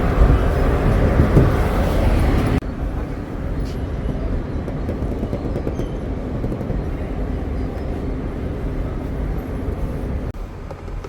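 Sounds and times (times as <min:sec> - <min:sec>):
diesel truck engine running: 0:00.0 - 0:10.8.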